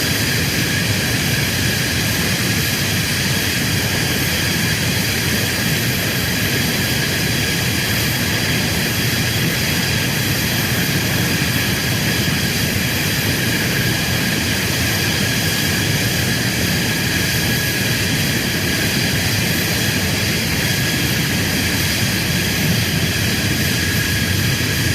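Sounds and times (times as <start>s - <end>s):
jet engine running: 0.0s - 24.9s.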